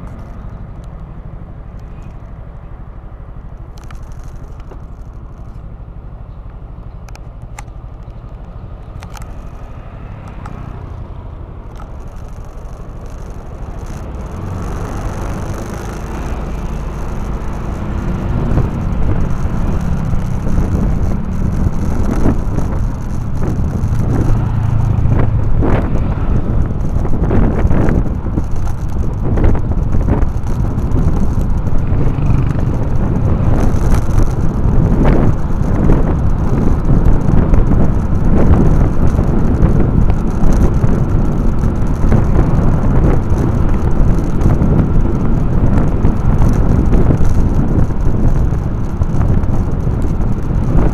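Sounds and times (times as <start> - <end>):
motorcycle engine running: 0.0 - 50.9
passing vehicle: 0.0 - 50.9
road and wind noise: 0.0 - 50.9.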